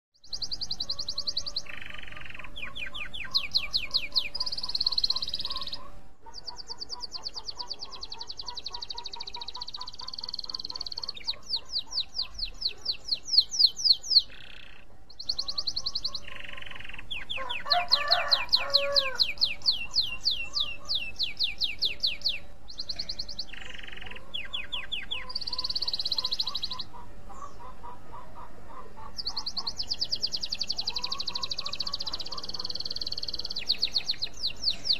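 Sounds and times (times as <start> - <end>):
canary singing trills: 0.2 - 34.9
lower warbling bird call: 0.2 - 34.9.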